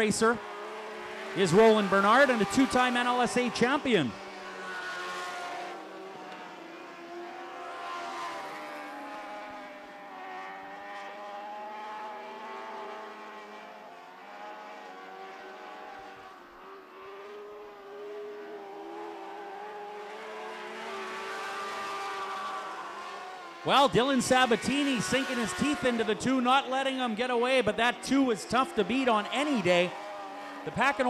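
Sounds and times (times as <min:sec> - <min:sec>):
sprint car engines at high revs: 0:00.0 - 0:31.0.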